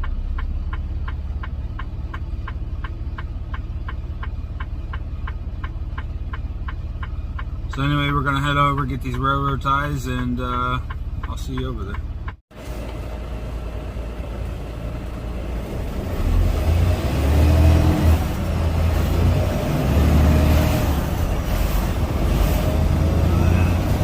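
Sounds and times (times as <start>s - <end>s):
truck diesel engine rumble: 0.0s - 24.0s.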